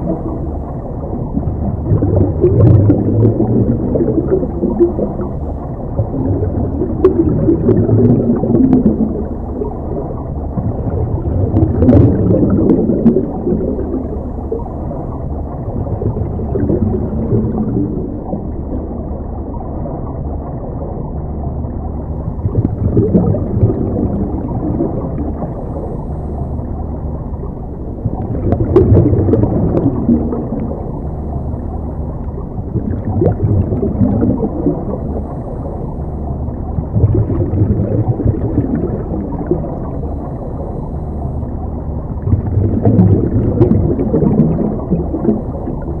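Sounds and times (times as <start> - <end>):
muffled underwater bubbling: 0.0 - 46.0.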